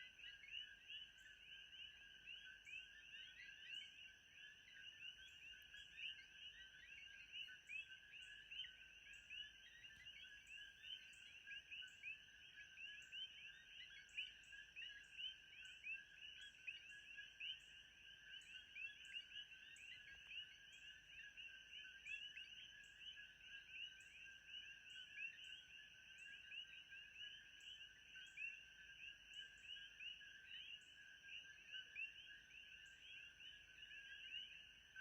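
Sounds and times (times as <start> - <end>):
frog chorus: 0.0 - 35.0.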